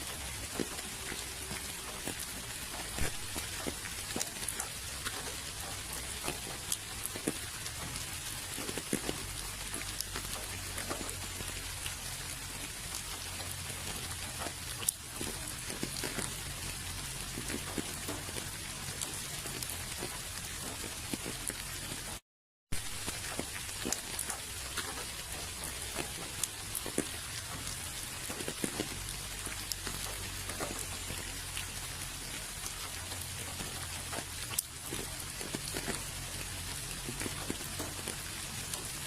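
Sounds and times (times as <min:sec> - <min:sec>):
rain drops ticking on surface: 0:00.0 - 0:39.0.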